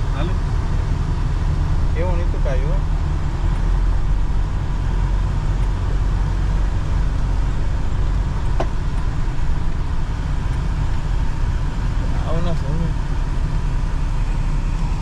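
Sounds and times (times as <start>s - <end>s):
engine and tyre rumble inside vehicle: 0.0s - 15.0s.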